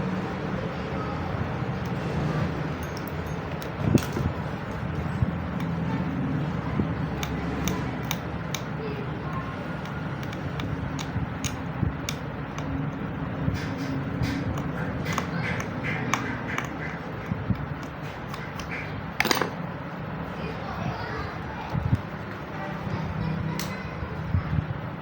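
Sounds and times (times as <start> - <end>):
low rumble of road traffic: 0.0 - 25.0.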